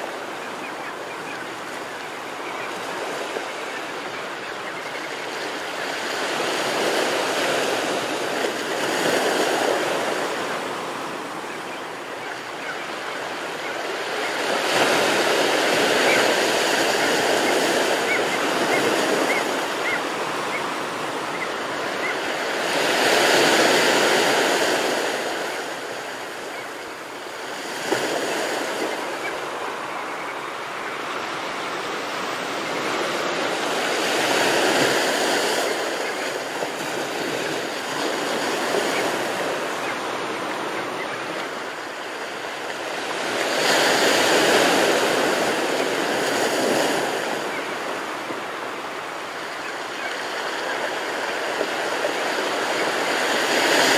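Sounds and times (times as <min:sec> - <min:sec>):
ocean waves breaking: 0:00.0 - 0:53.9.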